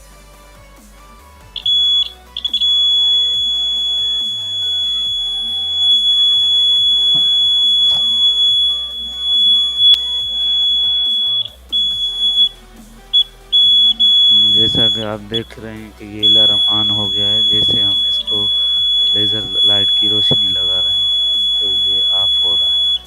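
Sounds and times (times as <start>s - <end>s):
high-pitched alarm buzzer: 1.6s - 15.5s, 16.2s - 23.0s.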